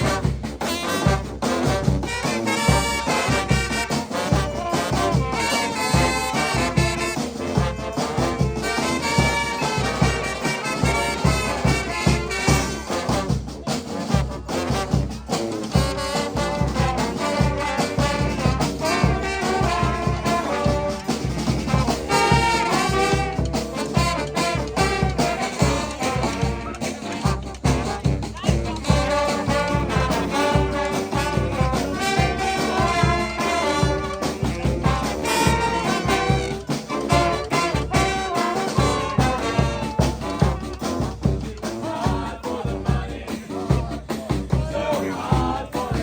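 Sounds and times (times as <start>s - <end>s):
brass band playing: 0.0s - 46.0s.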